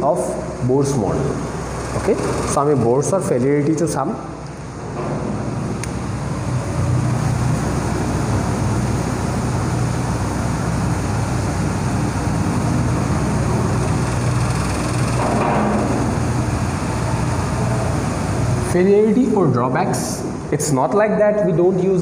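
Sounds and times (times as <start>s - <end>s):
room hiss: 0.0s - 22.0s.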